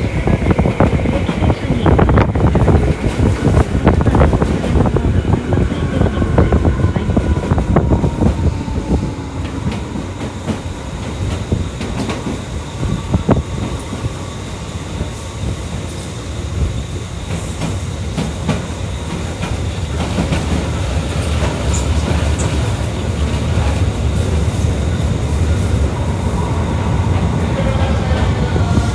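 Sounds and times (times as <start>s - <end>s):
train wheels rumbling on rail: 0.0s - 28.9s
rail joint clicks: 0.4s - 14.2s, 14.8s - 28.9s.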